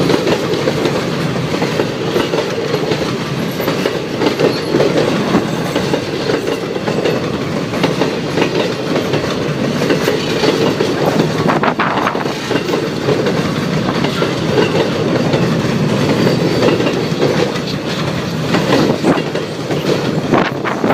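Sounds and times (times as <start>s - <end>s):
train wheels rumbling on rail: 0.0s - 20.9s
wheels clacking over rail joints: 0.0s - 20.9s.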